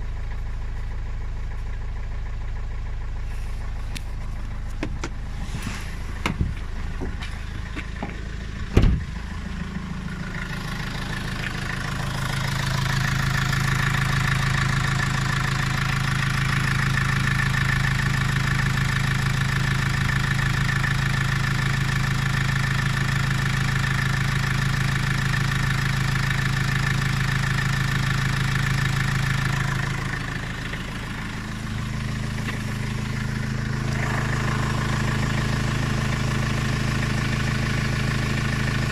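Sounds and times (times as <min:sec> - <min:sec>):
diesel engine idling rough: 0:00.0 - 0:38.9
engine knocking: 0:00.0 - 0:38.9.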